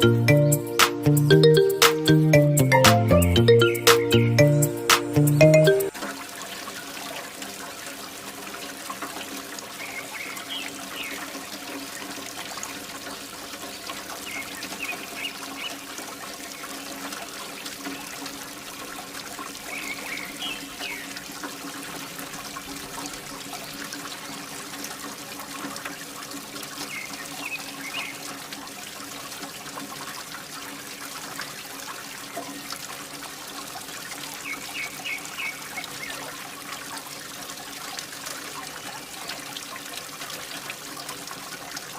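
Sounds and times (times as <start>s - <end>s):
water pouring: 5.7s - 41.9s.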